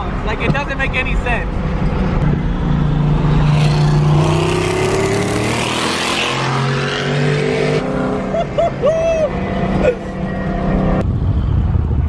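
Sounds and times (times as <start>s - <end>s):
car engine accelerating: 0.7s - 12.0s.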